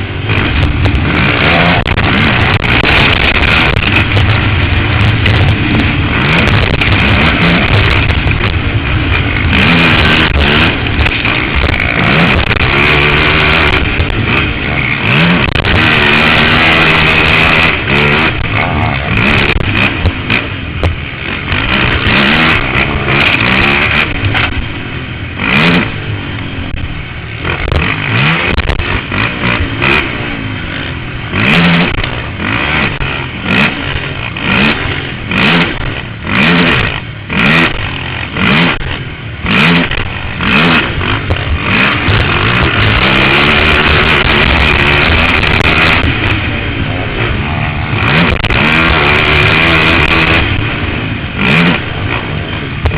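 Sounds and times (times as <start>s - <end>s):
quad engine revving hard: 0.0s - 52.9s.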